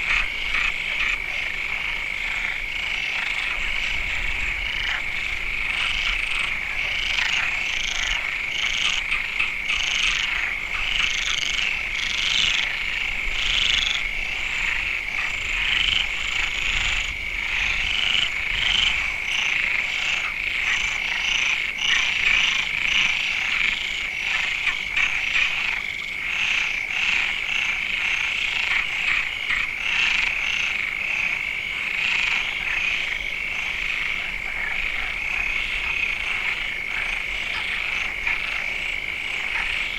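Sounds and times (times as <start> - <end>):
frog chorus: 0.0 - 39.9.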